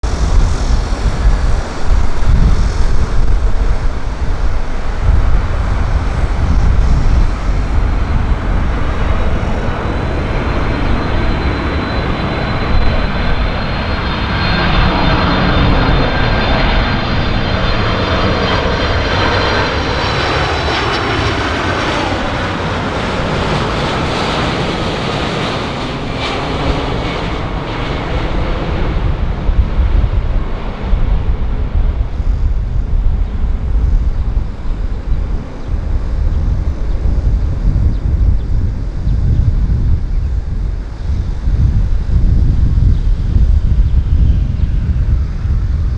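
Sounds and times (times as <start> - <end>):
jet engine roar with fan whine: 0.0 - 45.9
wind rumble on microphone: 0.0 - 45.9.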